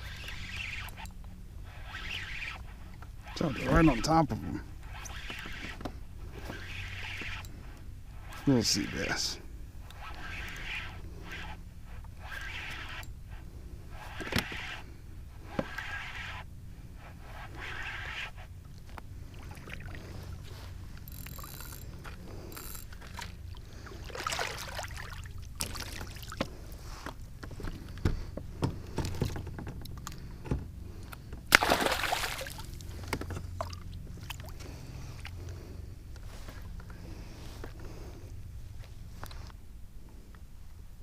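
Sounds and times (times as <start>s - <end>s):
water and wind rumble: 0.0s - 36.0s.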